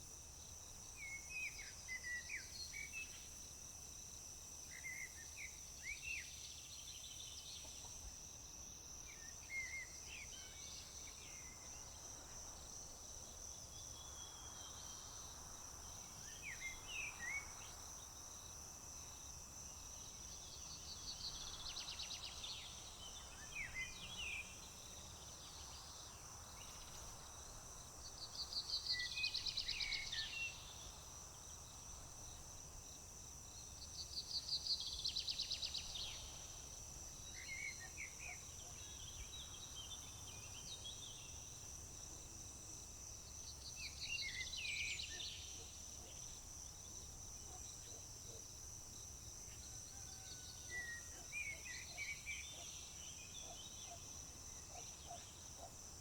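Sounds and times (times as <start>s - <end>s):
crickets droning: 0.0s - 56.0s.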